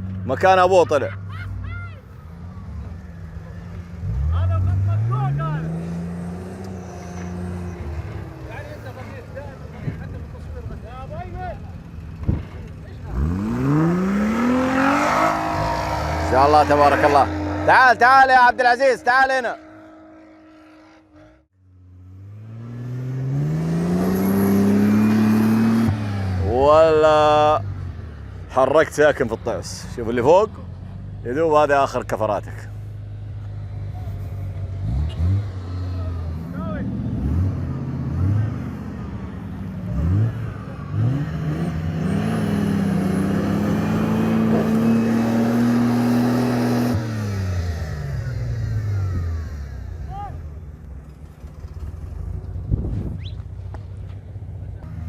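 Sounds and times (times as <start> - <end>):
off-road engine revving: 0.0 - 55.0.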